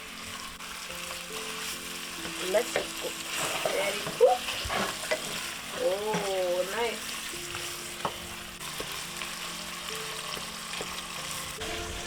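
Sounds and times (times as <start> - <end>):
filling sizzling in a pan: 0.0 - 12.0
soft background music: 0.0 - 12.0.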